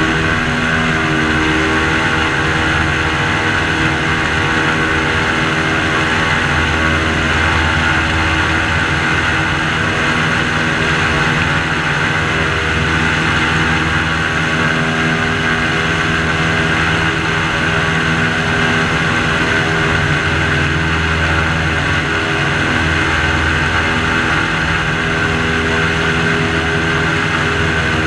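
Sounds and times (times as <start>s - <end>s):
airboat engine and propeller droning: 0.0s - 28.0s.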